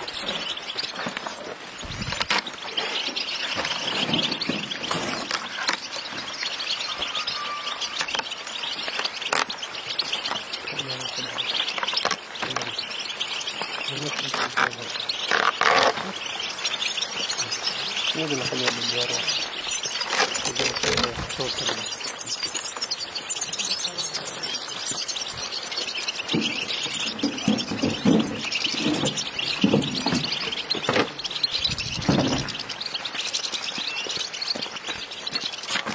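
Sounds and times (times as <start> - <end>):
goldfinches twittering and chirping: 0.0 - 35.9.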